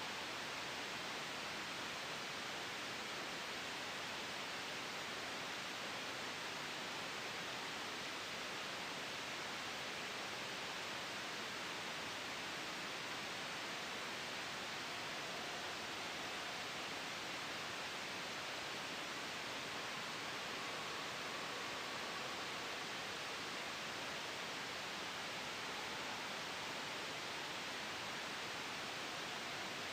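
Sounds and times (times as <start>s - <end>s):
white noise hiss: 0.0s - 29.9s.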